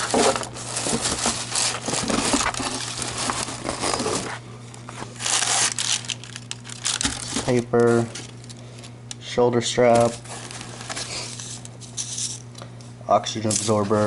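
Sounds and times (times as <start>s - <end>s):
paper crinkling and rustling: 0.0s - 8.9s, 9.8s - 12.4s.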